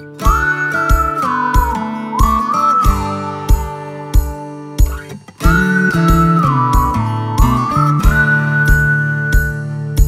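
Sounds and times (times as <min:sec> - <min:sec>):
steady music beat: 0:00.0 - 0:10.0
whistle-like lead melody: 0:00.0 - 0:10.0.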